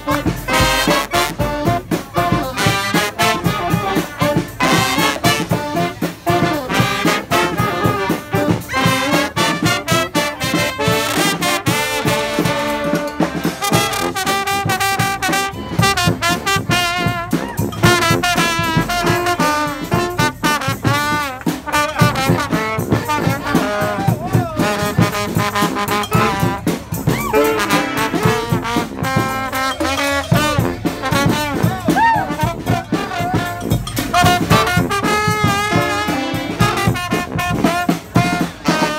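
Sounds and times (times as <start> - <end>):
drums keeping steady beat: 0.0 - 38.9
trumpets and trombones: 0.0 - 38.9.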